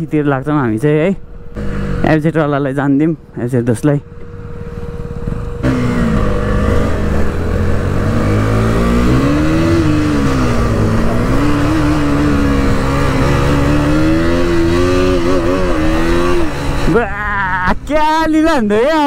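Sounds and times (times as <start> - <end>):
motorcycle engine revving: 1.2 - 2.8, 3.6 - 17.6.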